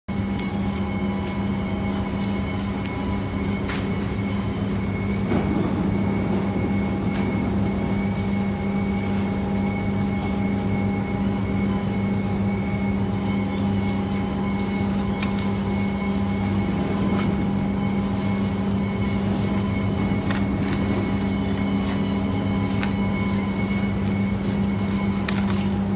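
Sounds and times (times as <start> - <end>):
industrial machinery drone: 0.1 - 25.9.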